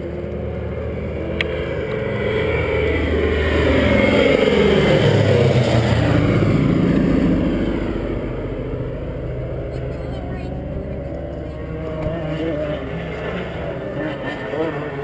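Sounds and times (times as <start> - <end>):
propeller aircraft droning overhead: 0.0 - 15.0.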